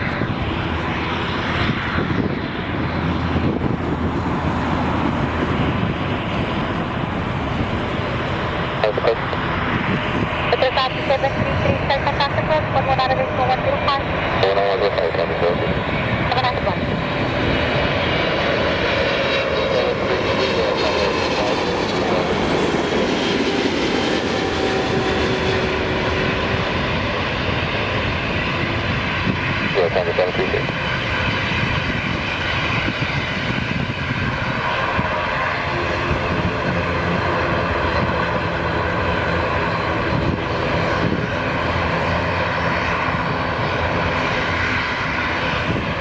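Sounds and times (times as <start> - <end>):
jet engine noise: 0.0 - 46.0.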